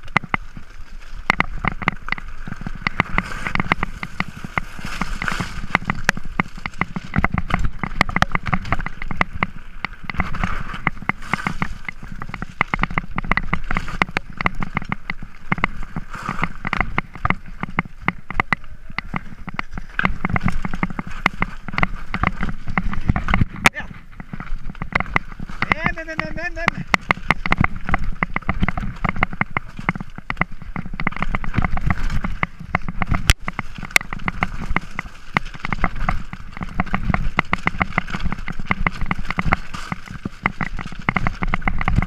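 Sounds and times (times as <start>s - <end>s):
bike tyres rattling on stones: 0.0s - 42.0s.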